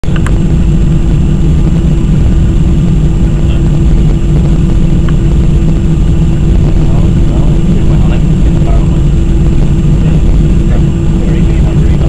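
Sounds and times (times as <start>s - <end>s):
airliner cabin engine rumble: 0.0s - 12.0s
constant cabin hum: 0.0s - 12.0s.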